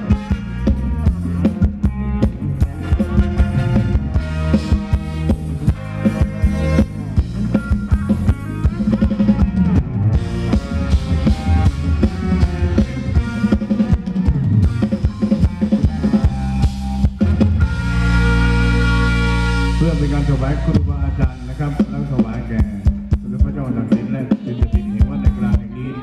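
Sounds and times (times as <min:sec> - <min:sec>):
band playing dance music: 0:00.0 - 0:26.0
drum kit beat: 0:00.0 - 0:26.0.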